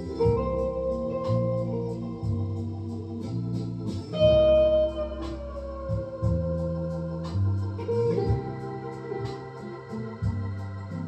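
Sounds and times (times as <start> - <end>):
electric guitar notes: 0.0 - 11.0
low bass line: 0.0 - 11.0.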